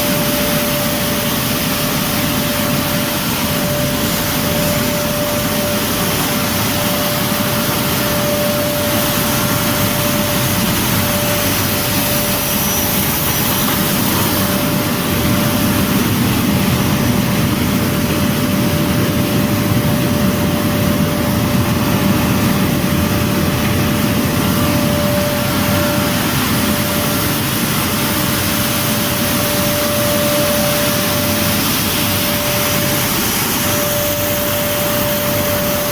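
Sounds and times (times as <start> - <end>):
milling machinery whining: 0.0 - 35.9.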